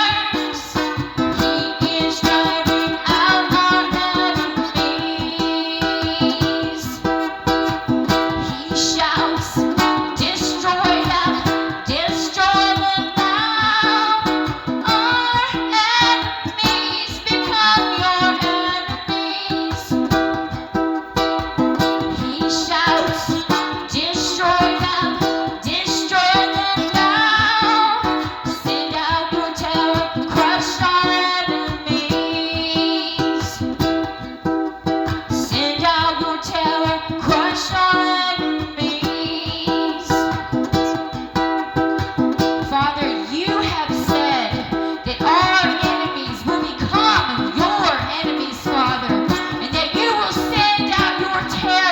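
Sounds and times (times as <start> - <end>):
plucked acoustic string song: 0.0 - 51.9.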